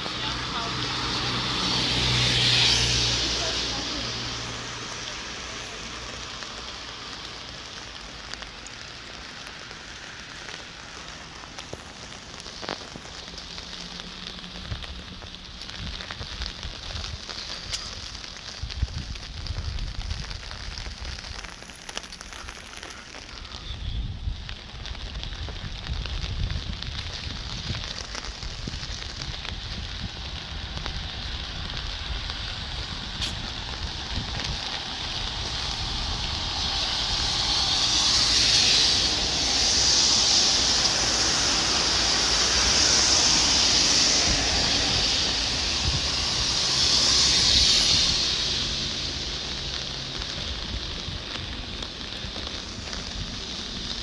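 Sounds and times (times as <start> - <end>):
steady rain: 0.0 - 54.0
tyres hissing on wet road: 0.0 - 54.0.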